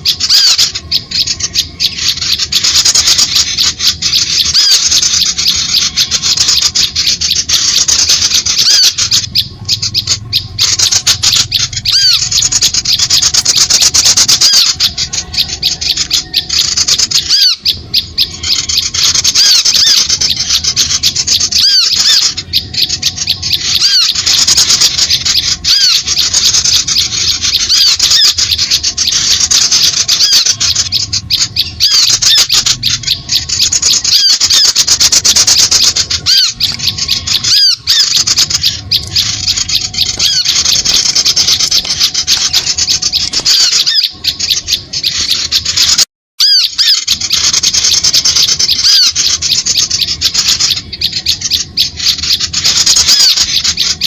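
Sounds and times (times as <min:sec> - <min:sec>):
songbirds chattering: 0:00.0 - 0:54.0.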